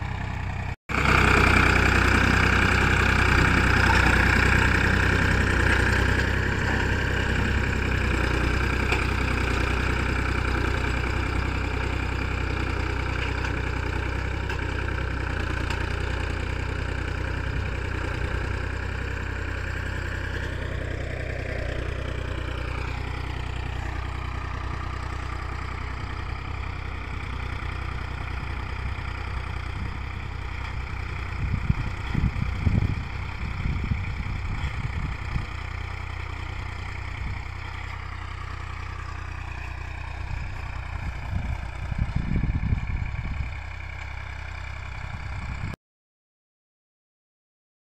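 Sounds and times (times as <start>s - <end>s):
tractor engine under load: 0.0s - 45.8s.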